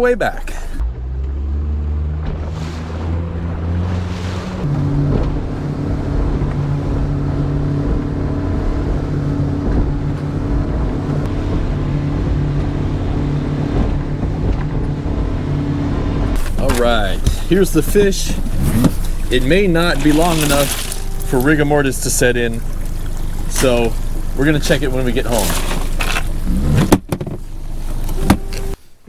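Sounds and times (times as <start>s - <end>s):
outboard motor running: 2.2s - 28.8s.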